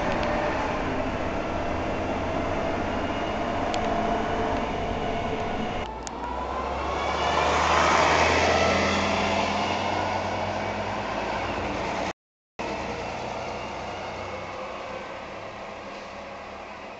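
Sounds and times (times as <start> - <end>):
city bus passing: 0.0 - 16.9
street traffic: 0.0 - 16.9.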